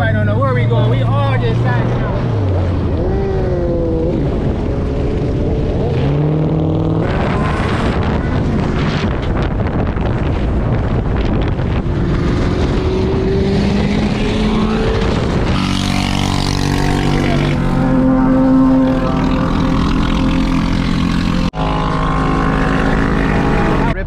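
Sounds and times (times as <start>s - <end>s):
engines running and revving: 0.0s - 24.0s.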